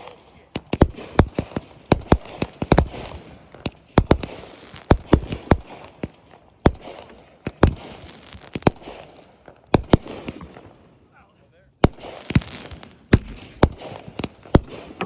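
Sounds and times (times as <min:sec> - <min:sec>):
fireworks crackle: 0:00.0 - 0:10.8, 0:11.8 - 0:15.0
fireworks bangs: 0:00.0 - 0:15.0.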